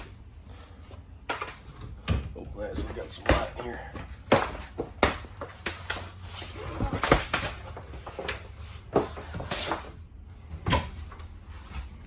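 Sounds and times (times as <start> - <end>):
knocks and clunks of handling: 0.0 - 12.0.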